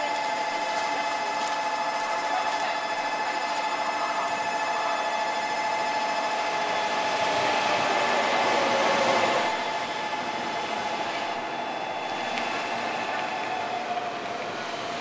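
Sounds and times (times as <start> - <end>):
train rushing noise: 0.0 - 15.0
high whine: 1.4 - 15.0.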